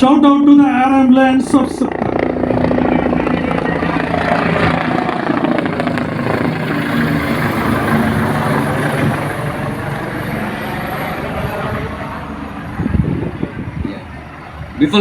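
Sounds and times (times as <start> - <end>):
helicopter rotors droning: 0.0 - 15.0.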